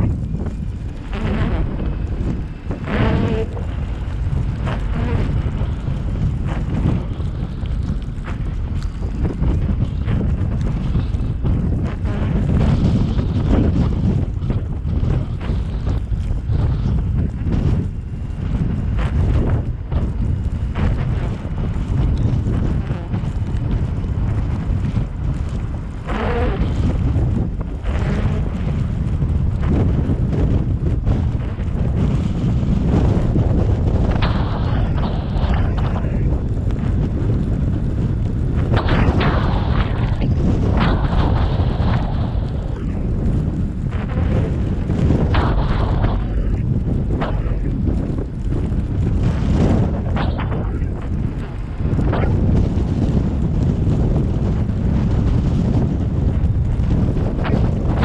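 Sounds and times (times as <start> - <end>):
wind buffeting: 0.0 - 58.0.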